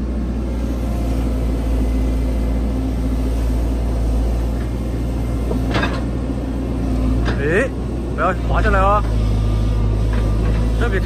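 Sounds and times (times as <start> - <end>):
excavator diesel engine drone: 0.0 - 11.0.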